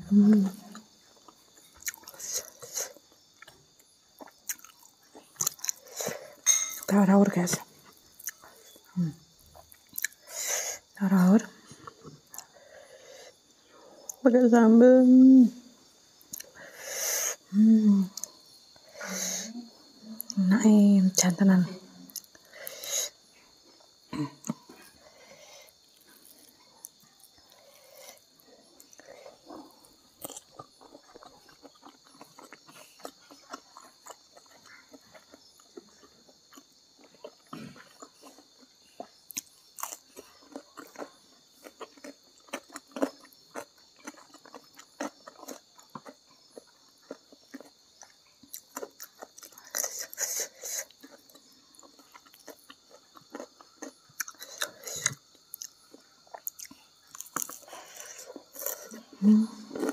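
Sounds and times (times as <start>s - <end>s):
chewing and biting food: 0.6s - 10.9s, 22.1s - 59.9s.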